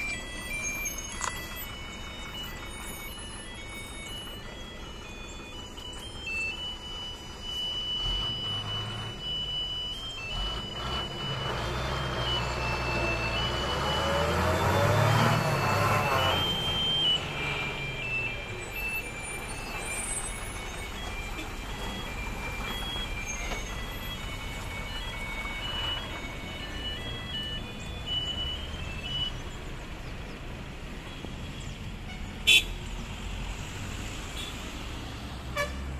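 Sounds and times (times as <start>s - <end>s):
high electronic tone: 0.0s - 29.5s
lorry diesel engine running: 0.0s - 35.9s.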